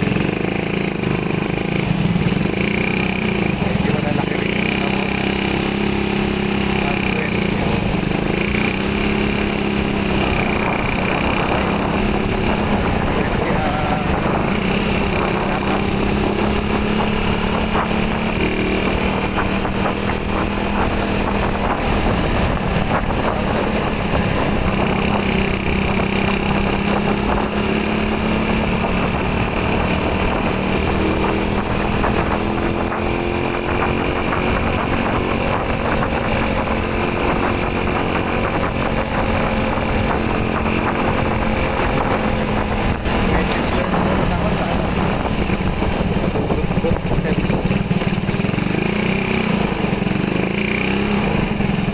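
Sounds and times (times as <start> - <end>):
motorcycle engine running: 0.0 - 51.9
road noise: 0.0 - 51.9
wind noise: 7.6 - 51.9.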